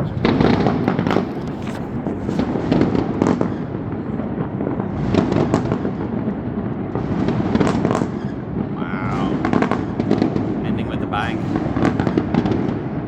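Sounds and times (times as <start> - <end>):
firework crackles: 0.0 - 13.0
fireworks booming: 0.0 - 13.0.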